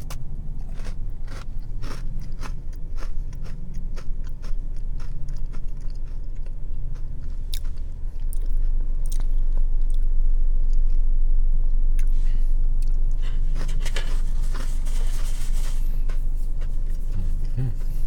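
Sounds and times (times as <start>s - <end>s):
crunchy biscuit chewing: 0.0s - 11.0s, 12.8s - 18.0s
steady low hum: 0.0s - 18.0s.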